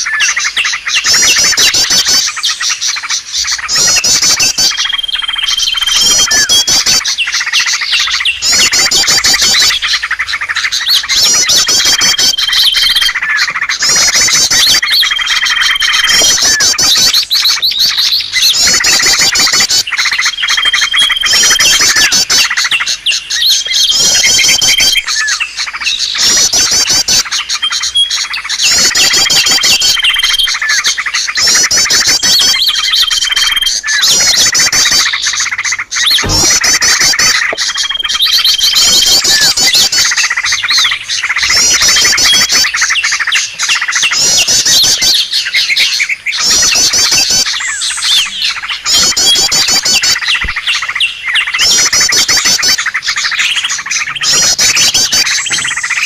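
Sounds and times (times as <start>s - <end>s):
held bird whistle: 0.0s - 56.0s
songbirds chirping and chattering: 0.0s - 56.0s.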